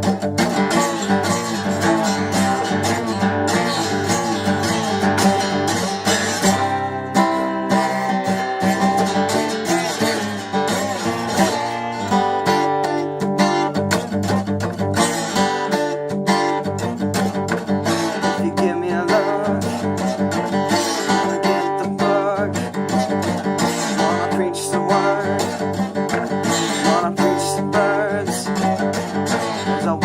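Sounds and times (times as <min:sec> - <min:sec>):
slide acoustic guitar riff: 0:00.0 - 0:30.0.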